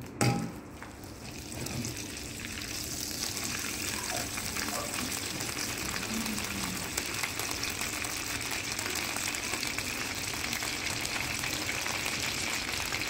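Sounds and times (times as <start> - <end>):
butter sizzling in a wok: 0.8 - 13.0.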